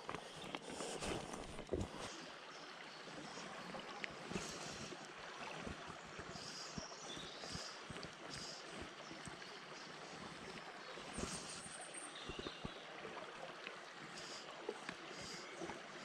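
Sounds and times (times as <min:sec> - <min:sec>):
stream running over stones: 0:00.0 - 0:16.0.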